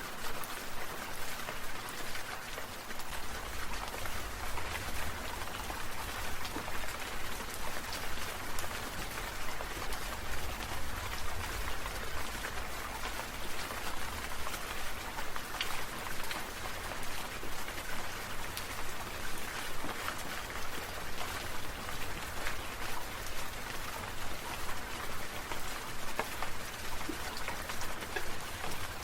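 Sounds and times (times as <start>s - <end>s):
rain pattering: 0.0s - 29.0s.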